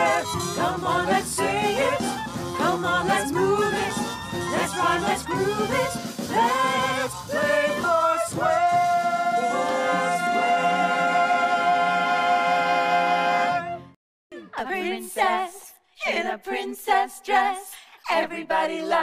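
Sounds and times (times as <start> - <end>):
group singing with music: 0.0 - 19.0.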